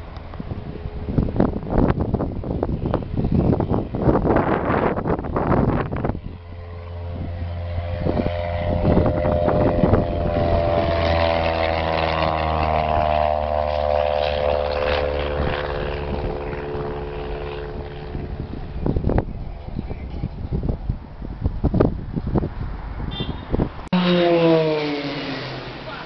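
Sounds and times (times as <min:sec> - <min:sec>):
propeller plane passing: 0:00.0 - 0:26.0.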